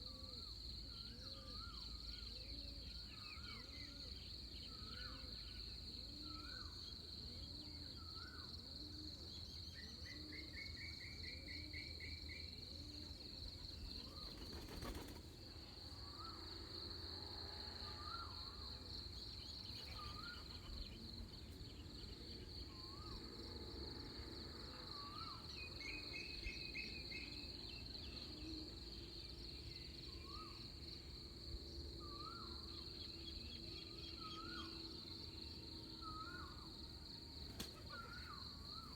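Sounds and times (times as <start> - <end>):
high insect drone: 0.0 - 38.9.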